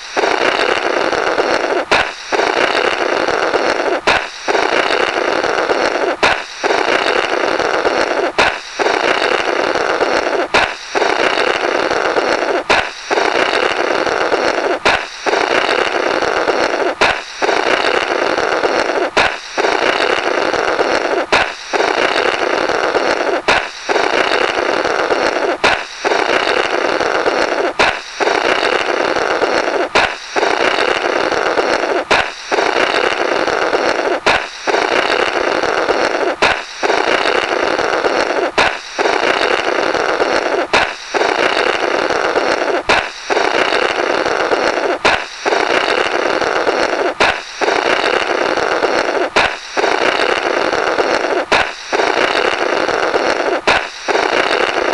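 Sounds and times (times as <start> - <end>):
balloon popping: 0.0 - 54.9
raspberry blown through balloon: 0.0 - 54.9.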